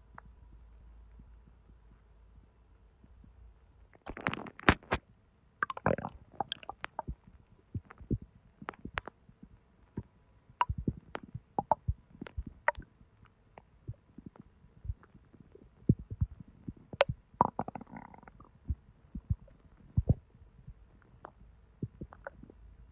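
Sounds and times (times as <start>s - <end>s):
stomach gurgling: 4.0s - 5.0s, 5.6s - 22.9s.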